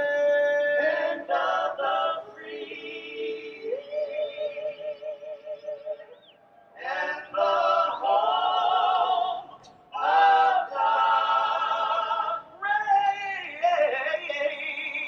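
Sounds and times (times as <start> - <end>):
voices singing long wavering notes: 0.0 - 15.0.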